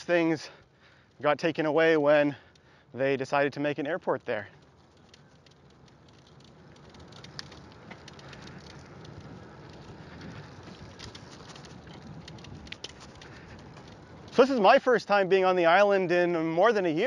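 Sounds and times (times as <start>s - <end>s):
light clicks and rattles: 0.0s - 15.3s.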